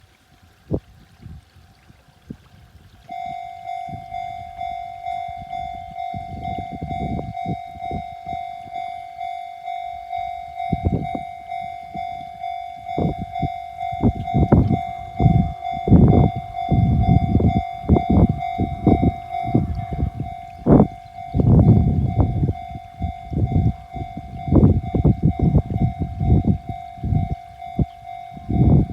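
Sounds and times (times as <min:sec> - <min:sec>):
level crossing electronic bell: 0:03.1 - 0:28.9.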